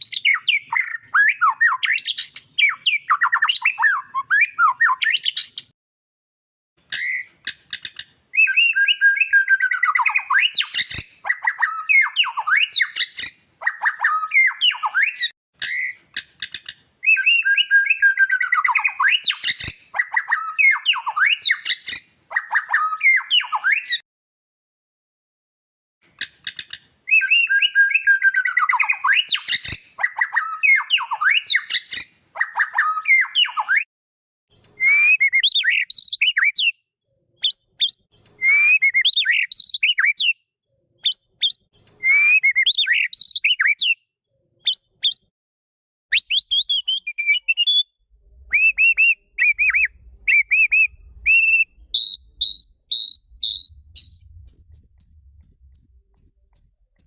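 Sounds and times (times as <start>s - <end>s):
bird singing whistled phrases: 0.0s - 5.8s, 8.4s - 16.0s, 17.0s - 24.0s, 27.1s - 33.9s, 34.8s - 36.8s, 37.4s - 40.4s, 41.0s - 44.0s, 44.6s - 45.3s, 46.1s - 57.0s.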